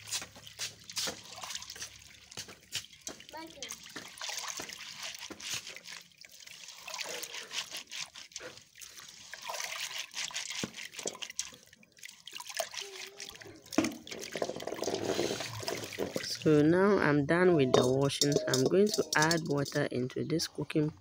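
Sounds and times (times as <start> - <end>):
water trickling and sloshing: 0.0 - 20.9.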